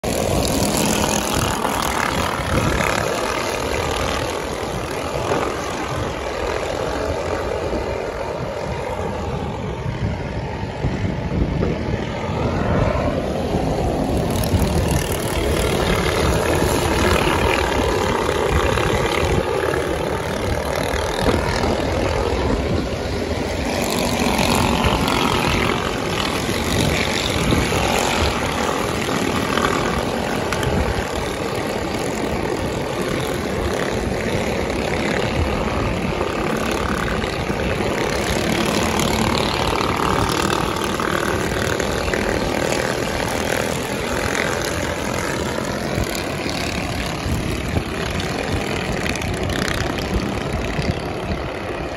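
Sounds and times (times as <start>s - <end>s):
mini bike engines droning: 0.0s - 51.9s
road traffic: 0.0s - 51.9s.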